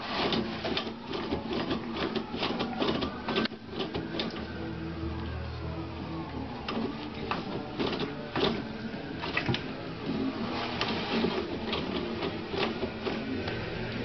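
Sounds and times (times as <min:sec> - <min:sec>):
toilet paper rustling: 0:00.0 - 0:04.7, 0:06.2 - 0:14.0
paper roll spinning on holder: 0:00.0 - 0:14.0.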